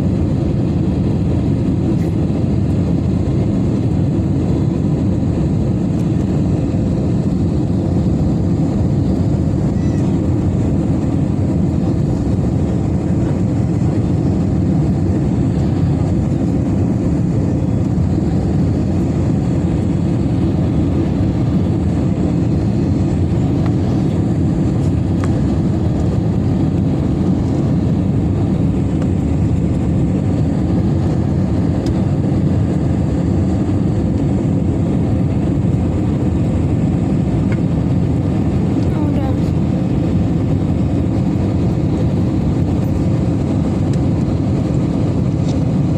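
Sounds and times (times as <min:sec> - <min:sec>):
airliner low rumble: 0:00.0 - 0:45.9.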